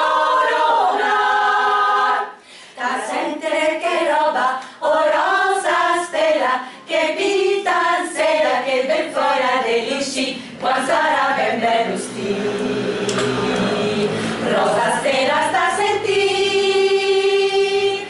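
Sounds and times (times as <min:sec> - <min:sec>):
women singing a cappella: 0:00.0 - 0:18.0.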